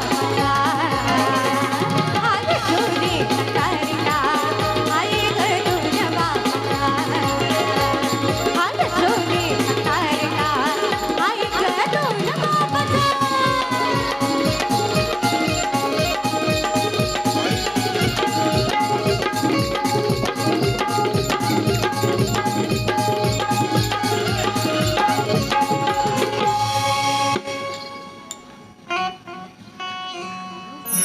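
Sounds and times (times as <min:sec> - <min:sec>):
hand drum beat: 0:00.0 - 0:26.7.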